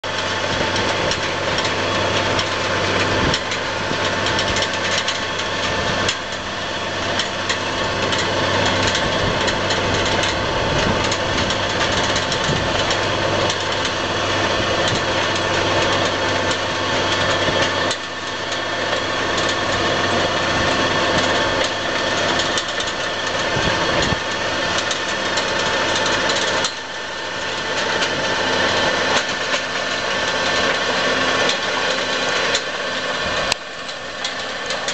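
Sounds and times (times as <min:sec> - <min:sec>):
power harrow working soil: 0:00.0 - 0:34.9
tractor diesel engine under load: 0:00.0 - 0:34.9.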